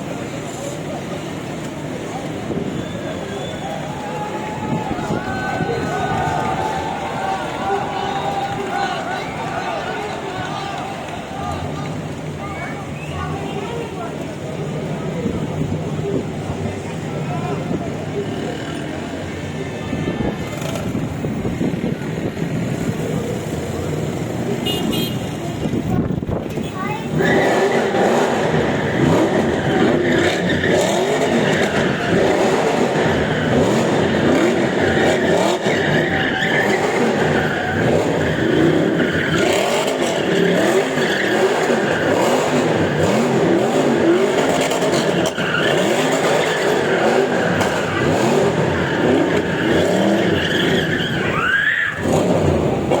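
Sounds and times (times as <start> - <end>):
sports car engines revving: 0.0 - 53.0.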